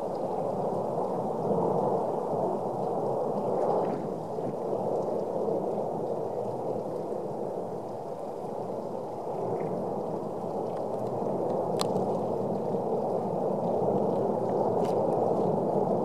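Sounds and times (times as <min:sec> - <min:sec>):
volcano low rushing noise: 0:00.0 - 0:16.0.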